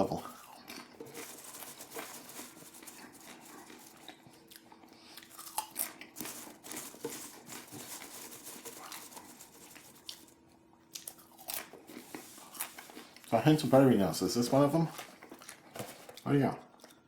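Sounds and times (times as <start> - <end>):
person chewing popcorn: 0.0 - 13.9, 14.5 - 17.0.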